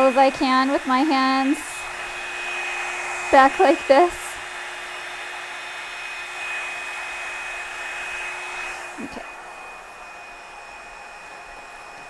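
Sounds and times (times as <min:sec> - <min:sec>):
hair dryer air rush and whine: 0:00.0 - 0:12.0.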